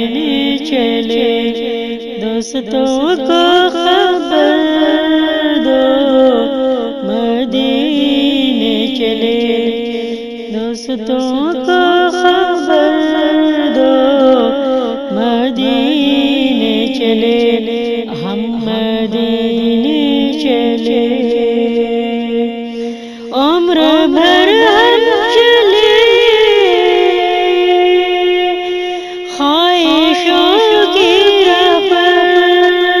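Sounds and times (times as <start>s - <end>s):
woman singing devotional song: 0.0s - 33.0s.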